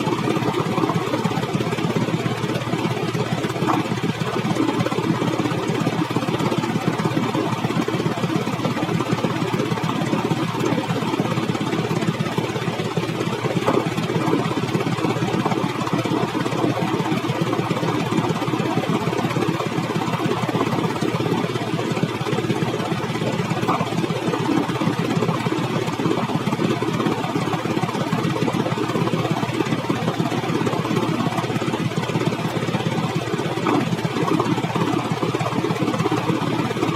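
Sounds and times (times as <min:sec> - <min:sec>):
vehicle engine running: 0:00.0 - 0:36.9.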